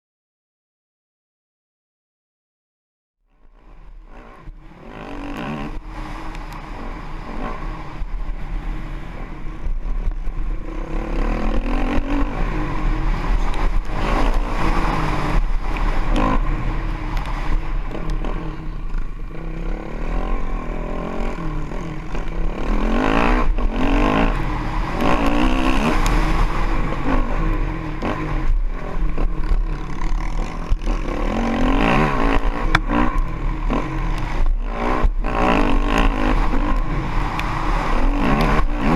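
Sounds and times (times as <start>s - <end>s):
dirt bike engine revving: 3.5s - 38.9s
wind rush: 5.7s - 19.6s, 20.2s - 38.9s.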